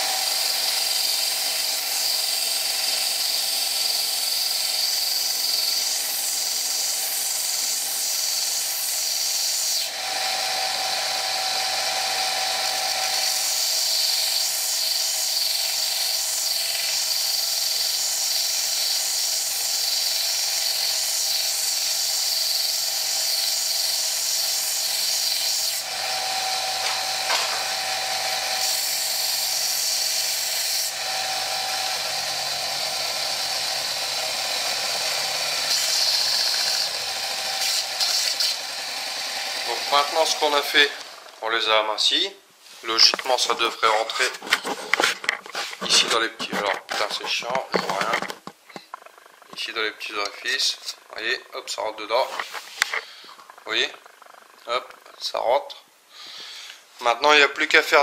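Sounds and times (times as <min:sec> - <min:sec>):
belt sander grinding steel rod: 0:00.0 - 0:42.0, 0:42.7 - 0:54.2.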